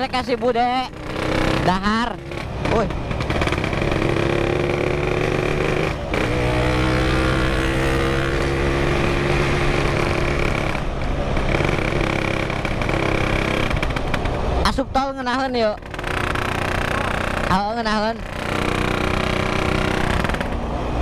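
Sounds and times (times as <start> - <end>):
two-stroke motorcycle engine running: 0.0 - 20.7.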